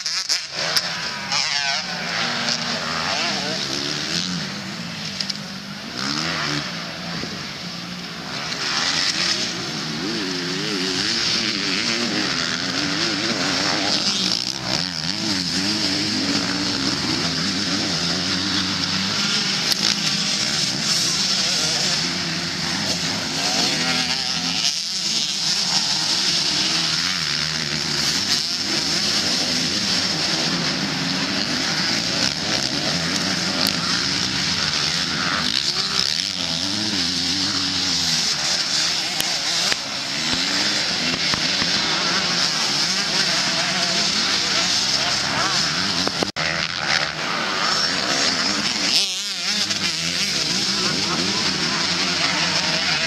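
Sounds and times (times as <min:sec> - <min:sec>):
motocross bike engines revving: 0:00.0 - 0:53.0.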